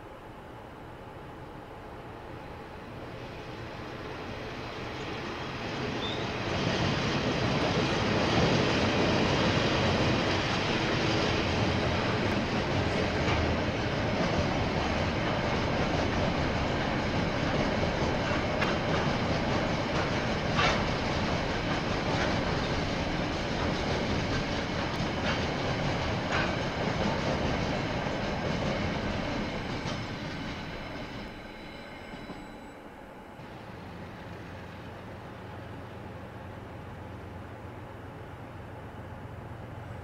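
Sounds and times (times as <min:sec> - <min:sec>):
freight train wheels rumbling on rail: 0:00.0 - 0:40.0
wheels clacking on rail: 0:03.8 - 0:40.0.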